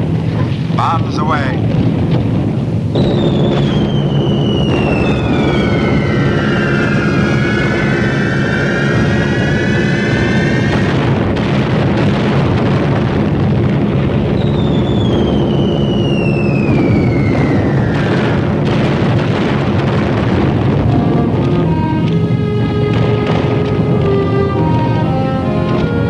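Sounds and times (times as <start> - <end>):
piston engines droning: 0.0 - 26.0
falling bomb whistles: 2.9 - 13.4, 14.2 - 26.0.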